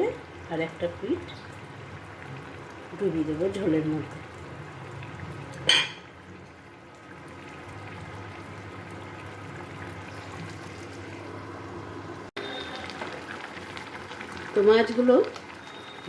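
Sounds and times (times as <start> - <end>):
curry simmering and bubbling: 0.0 - 16.0.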